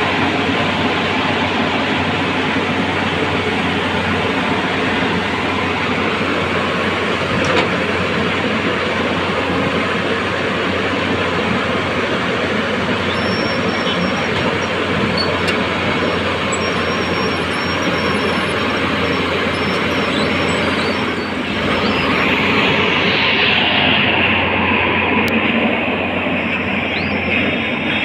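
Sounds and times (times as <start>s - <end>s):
diesel engine running hard: 0.0s - 28.0s.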